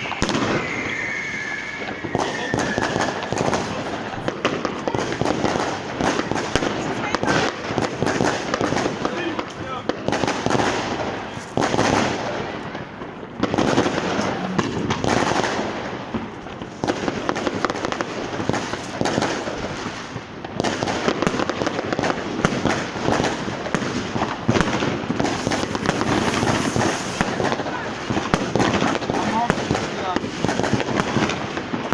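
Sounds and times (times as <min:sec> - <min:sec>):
fireworks crackling and banging: 0:00.0 - 0:31.9.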